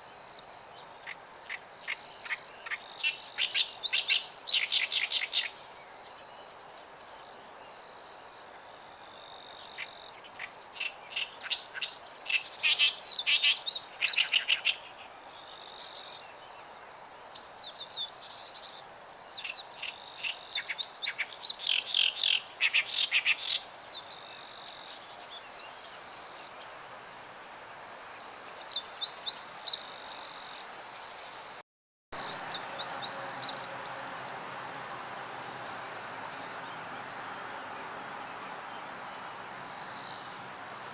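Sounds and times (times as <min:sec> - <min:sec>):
warbler singing chattering song: 0:00.3 - 0:06.8, 0:08.5 - 0:26.8, 0:28.2 - 0:31.6, 0:32.2 - 0:40.9.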